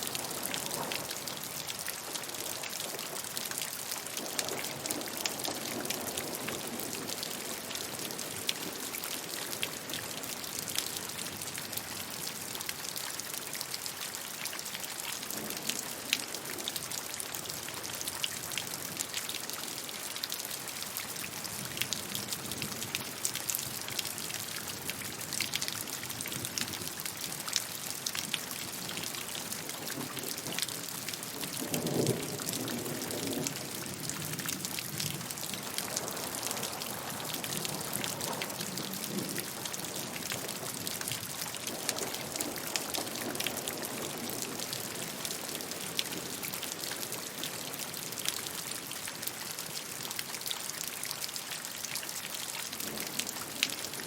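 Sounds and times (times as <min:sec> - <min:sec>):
steady rainfall hiss: 0:00.0 - 0:50.3
raindrops ticking on surface: 0:00.0 - 0:54.0.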